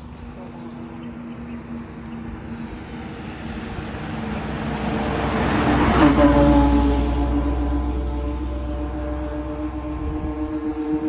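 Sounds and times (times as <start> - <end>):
truck passing on highway: 0.0 - 11.0.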